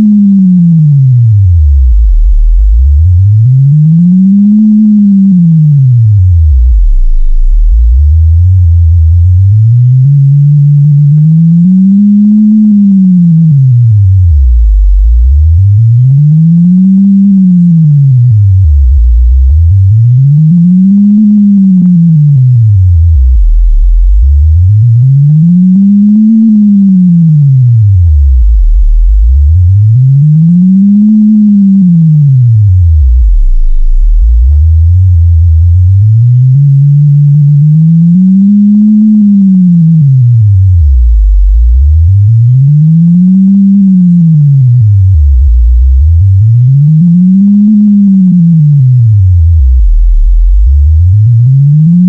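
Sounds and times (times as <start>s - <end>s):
electronic sine tone gliding: 0.0s - 52.0s.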